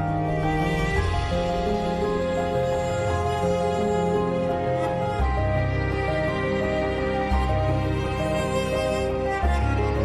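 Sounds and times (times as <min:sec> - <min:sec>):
slow sad background music: 0:00.0 - 0:10.0.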